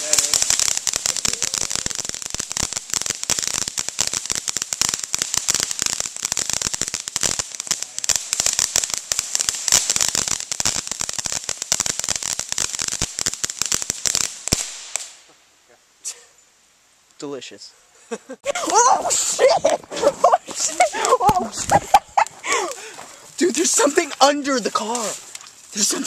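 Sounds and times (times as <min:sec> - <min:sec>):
fireworks crackling: 0:00.0 - 0:16.6, 0:17.3 - 0:26.0.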